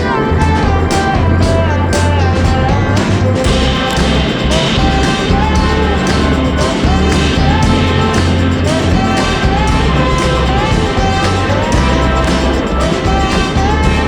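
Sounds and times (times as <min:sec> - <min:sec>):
song with bass rhythm: 0:00.0 - 0:14.0.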